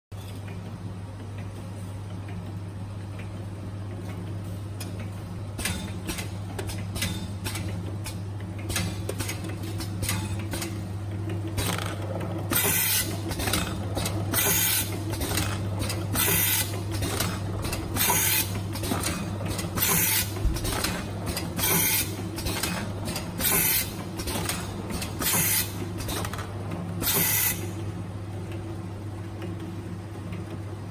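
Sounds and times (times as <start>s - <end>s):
machine humming with light clicking: 0.2s - 30.9s.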